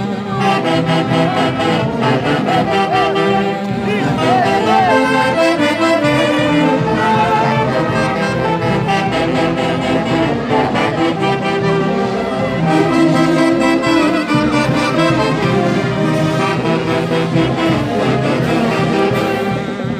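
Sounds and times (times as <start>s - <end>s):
wind band playing a melody: 0.0s - 19.9s.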